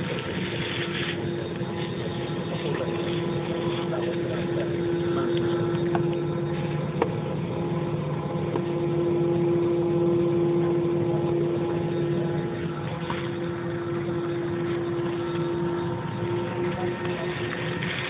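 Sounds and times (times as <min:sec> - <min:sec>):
jet engines droning in cabin: 0:00.0 - 0:18.0.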